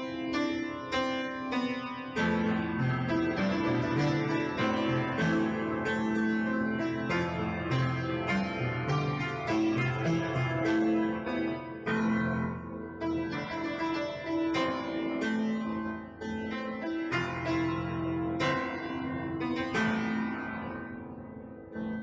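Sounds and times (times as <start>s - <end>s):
slow piano piece: 0.0s - 22.0s.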